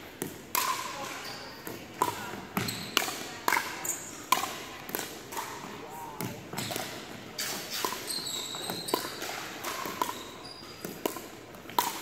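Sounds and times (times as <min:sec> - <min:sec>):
paddles striking pickleball: 0:00.2 - 0:12.0.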